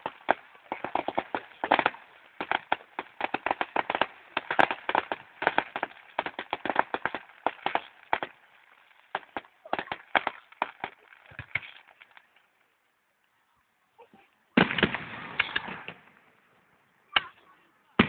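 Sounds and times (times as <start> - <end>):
fireworks bangs and crackles: 0.0 - 12.7, 14.1 - 18.0.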